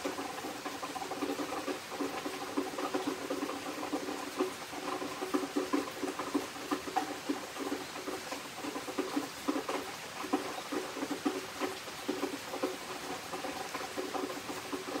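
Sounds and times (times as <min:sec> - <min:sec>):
rain pattering and dripping: 0:00.0 - 0:15.0.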